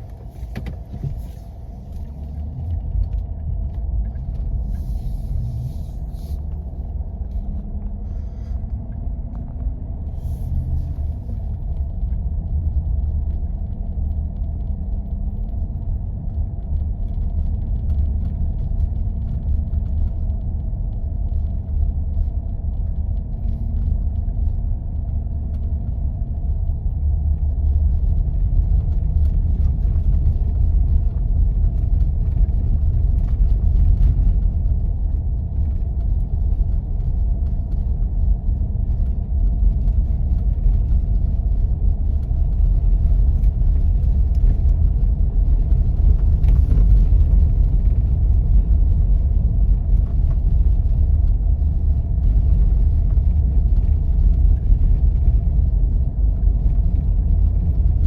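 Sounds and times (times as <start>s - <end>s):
faint steady hum: 0.0s - 58.0s
tyres and drivetrain rumble: 0.0s - 58.0s.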